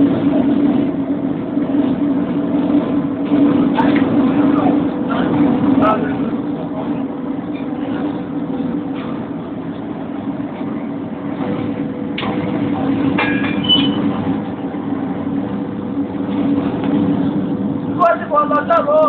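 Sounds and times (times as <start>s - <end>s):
low machinery drone: 0.0s - 19.0s.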